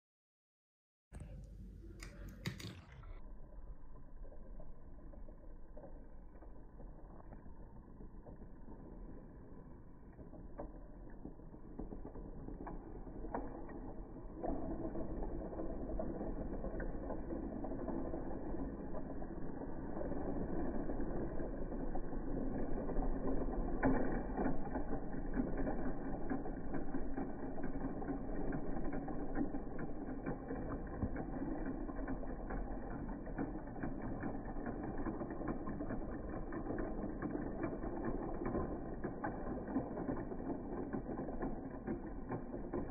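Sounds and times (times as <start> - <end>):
toy train motors whirring and rattling: 1.2 - 3.2, 4.4 - 42.9.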